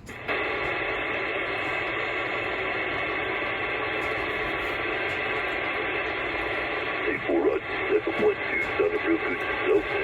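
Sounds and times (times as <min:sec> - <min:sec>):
radio static hiss: 0:00.2 - 0:10.0.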